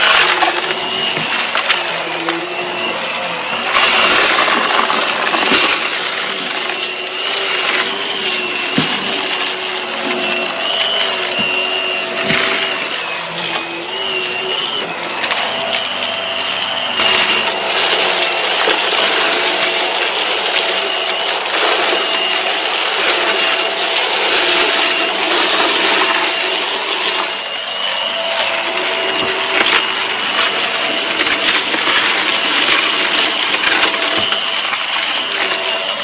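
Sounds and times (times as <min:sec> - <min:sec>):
debris rattling through vacuum: 0:00.0 - 0:36.0
vacuum motor whine: 0:00.0 - 0:36.0.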